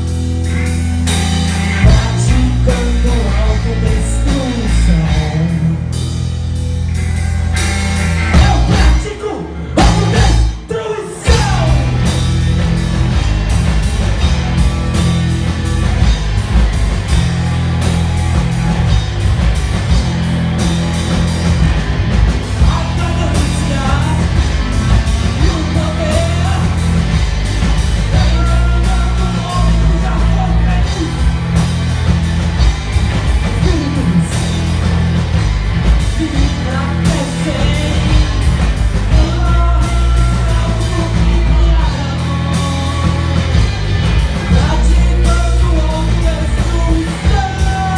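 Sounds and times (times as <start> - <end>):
rock band with singing and drums: 0.0 - 47.9.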